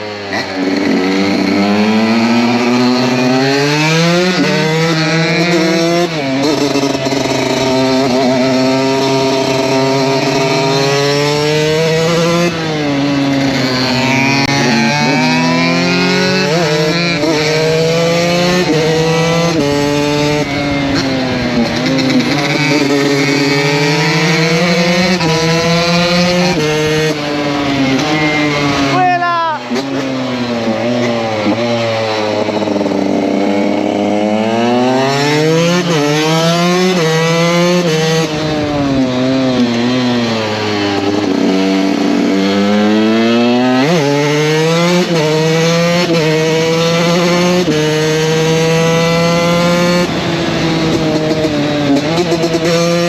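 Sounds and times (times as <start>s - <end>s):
motocross engine revving: 0.0s - 53.0s.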